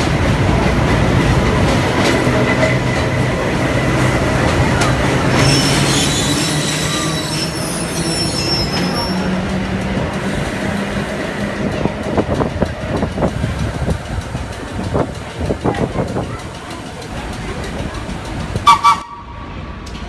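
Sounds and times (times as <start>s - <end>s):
train wheels clattering over rail: 0.0s - 20.0s.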